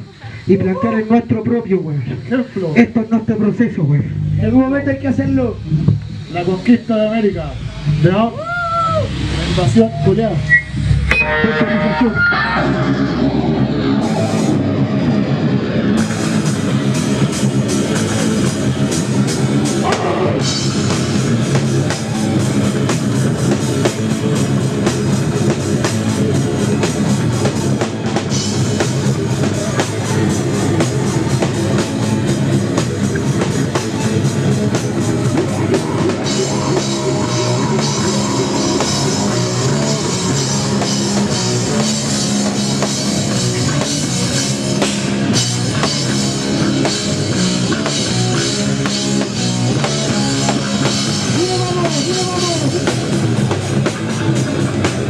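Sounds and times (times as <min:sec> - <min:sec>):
bass guitar: 0:00.0 - 0:55.0
electric guitar: 0:00.0 - 0:55.0
drum kit: 0:04.1 - 0:55.0.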